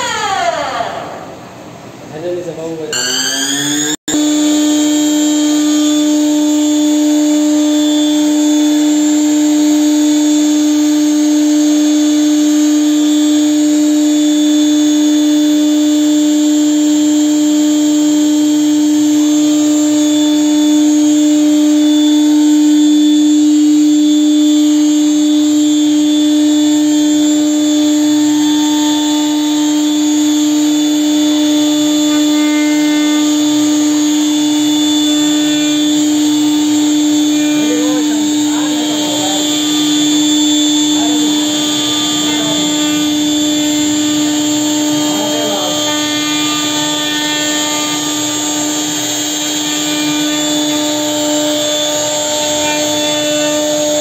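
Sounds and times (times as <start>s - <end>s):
router spindle motor whine: 0.0s - 54.0s.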